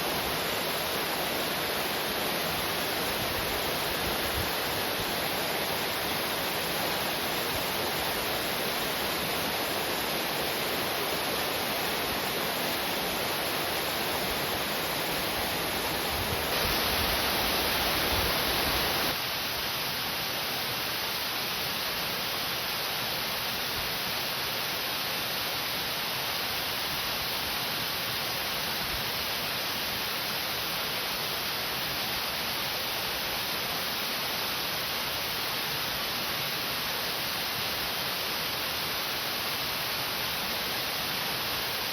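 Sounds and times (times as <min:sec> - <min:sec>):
waterfall rushing over rock: 0:00.0 - 0:41.9.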